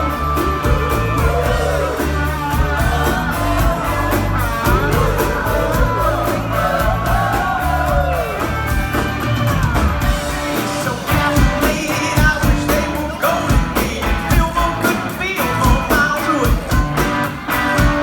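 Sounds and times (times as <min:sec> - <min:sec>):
bass: 0:00.0 - 0:18.0
drums: 0:00.0 - 0:18.0
guitar: 0:00.0 - 0:18.0.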